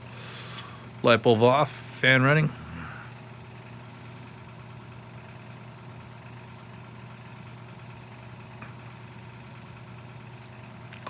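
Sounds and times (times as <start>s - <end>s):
mains hum: 0.0s - 11.0s
small cooling fan motor running: 0.0s - 11.0s.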